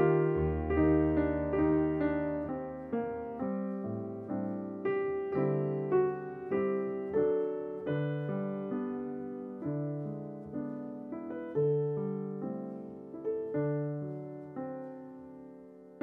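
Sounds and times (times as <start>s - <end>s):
gentle solo piano melody: 0.0s - 16.0s.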